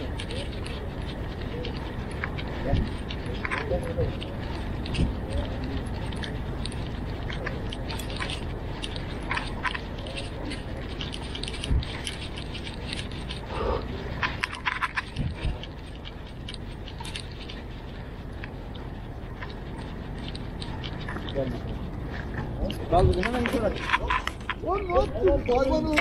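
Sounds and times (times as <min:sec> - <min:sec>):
light clicks and rattles: 0:00.0 - 0:26.0
low background rumble: 0:00.0 - 0:26.0.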